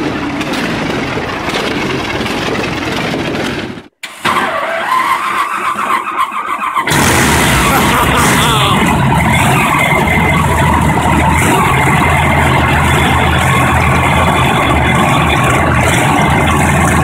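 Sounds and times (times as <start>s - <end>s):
big engine running: 0.0s - 3.9s, 6.9s - 17.0s.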